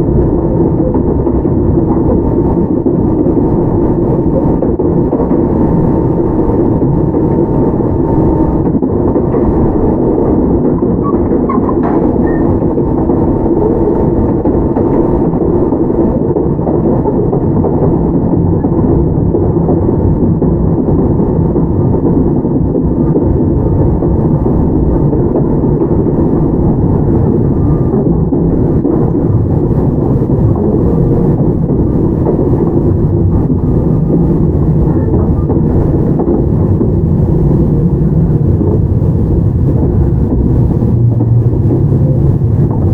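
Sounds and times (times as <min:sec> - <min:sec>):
train wheels on rail: 0:00.0 - 0:42.9.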